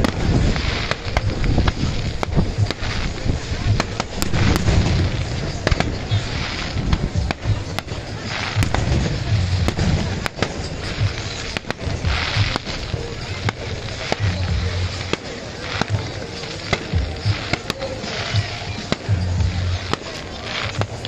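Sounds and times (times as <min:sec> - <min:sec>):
continuous low rumble: 0:00.0 - 0:15.2, 0:18.3 - 0:21.0
fireworks cracks and booms: 0:00.0 - 0:21.0.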